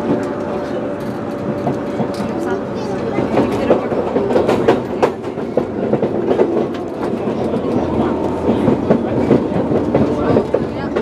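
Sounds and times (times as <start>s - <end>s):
train wheels clicking over rail joints: 1.0s - 11.0s.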